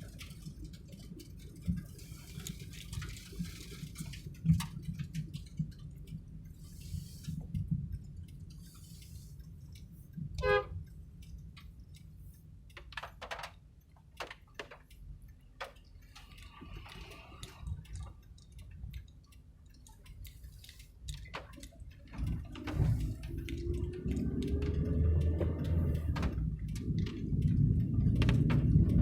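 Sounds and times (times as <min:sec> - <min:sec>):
light clicks and rattles: 0:00.0 - 0:29.0
vehicle road rumble: 0:00.0 - 0:29.0.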